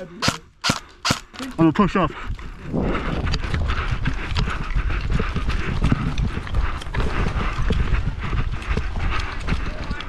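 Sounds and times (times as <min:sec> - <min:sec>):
footsteps running through dry grass: 0:00.7 - 0:10.0.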